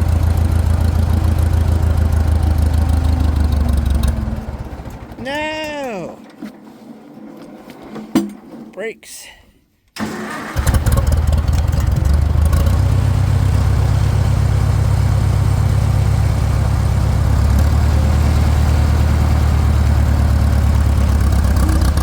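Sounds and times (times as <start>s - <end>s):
tractor engine running: 0.0s - 6.0s, 10.0s - 22.0s.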